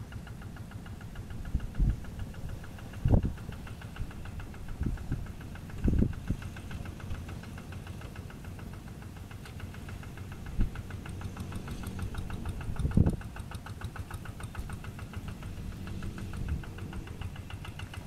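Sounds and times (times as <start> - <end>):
diesel tractor engine knocking: 0.0 - 18.0
tiller churning mud: 0.0 - 18.0.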